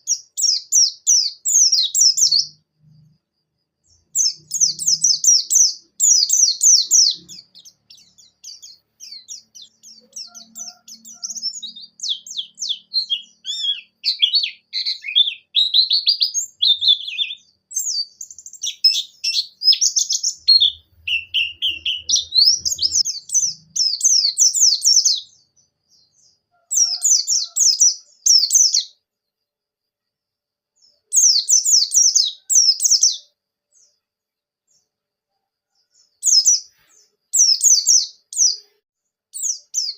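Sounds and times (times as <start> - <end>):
bird twittering song: 0.0 - 29.0, 30.8 - 34.1, 35.6 - 39.9.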